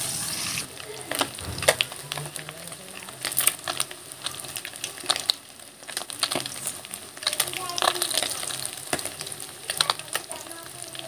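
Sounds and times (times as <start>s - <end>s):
fish sizzling in hot oil: 0.0s - 11.0s
oil crackles and pops: 0.0s - 11.0s.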